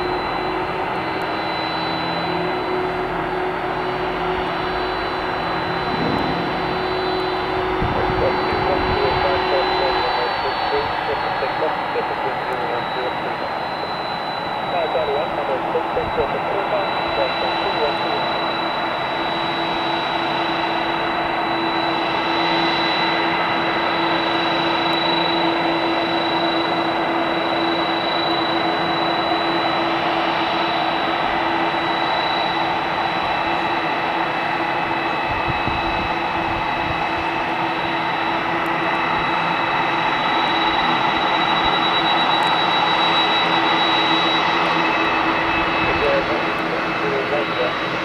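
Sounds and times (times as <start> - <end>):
jet engines whining: 0.0 - 48.0.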